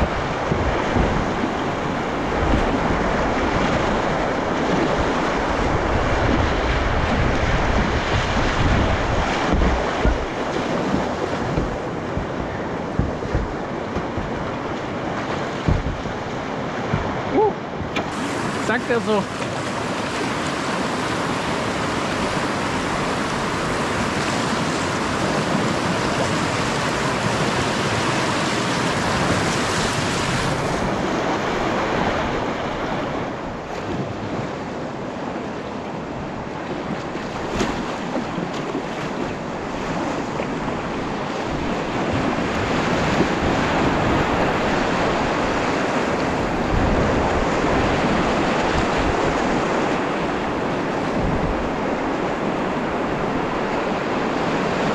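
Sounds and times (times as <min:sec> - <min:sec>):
whitewater rapids rushing: 0:00.0 - 0:54.9.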